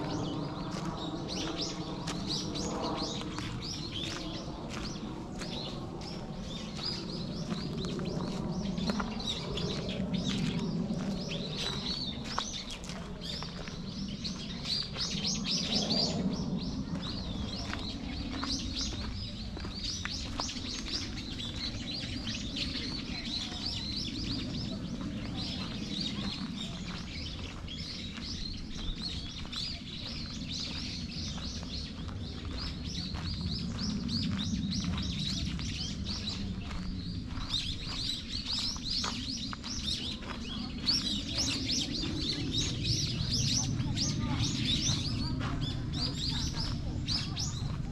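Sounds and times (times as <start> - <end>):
small birds chirping: 0.0 - 47.9
steady low rumble: 0.0 - 47.9.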